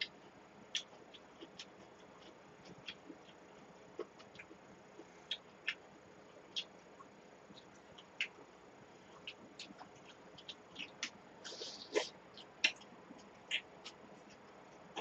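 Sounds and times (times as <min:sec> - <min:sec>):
chewing and smacking: 0:00.0 - 0:08.5, 0:09.1 - 0:15.0.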